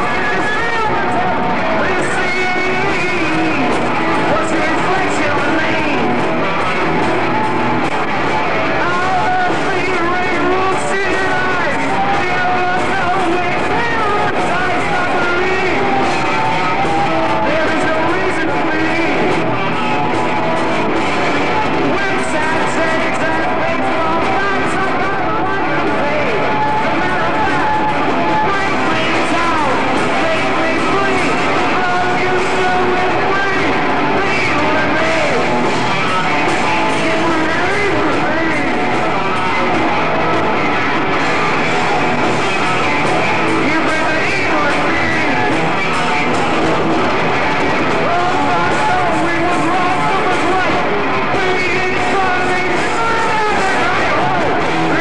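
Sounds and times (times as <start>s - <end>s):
bass guitar: 0.0s - 55.0s
loud electric guitar: 0.0s - 55.0s
rock band playing live: 0.0s - 55.0s.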